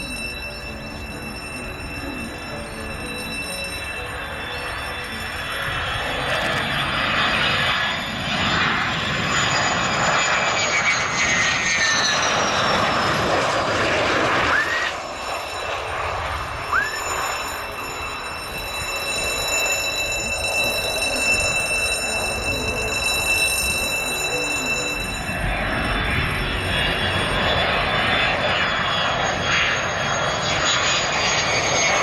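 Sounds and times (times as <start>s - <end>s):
high turbine whine: 0.0s - 32.0s
jet engine roar: 0.0s - 32.0s.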